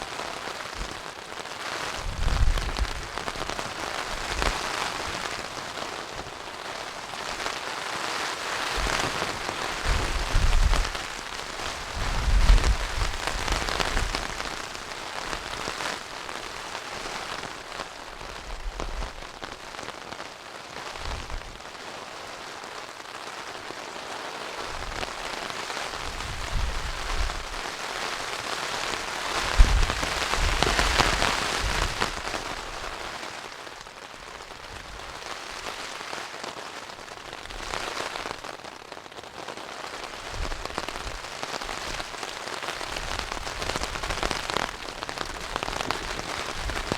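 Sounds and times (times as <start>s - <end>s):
rain in windy storm: 0.0s - 46.9s.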